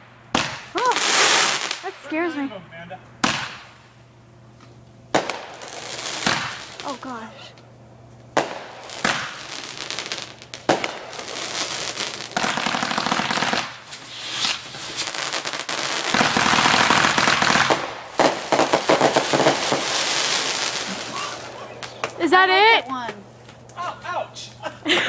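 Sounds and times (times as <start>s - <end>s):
firework popping and crackling: 0.0s - 2.3s, 3.2s - 7.3s, 8.1s - 25.0s
firework bangs: 0.0s - 2.4s, 3.2s - 4.3s, 5.1s - 7.3s, 8.3s - 25.0s.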